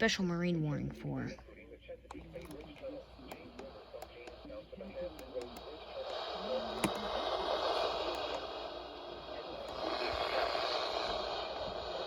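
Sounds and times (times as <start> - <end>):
faint voice reading over radio: 0.0 - 12.0
radio static hiss: 1.2 - 12.0.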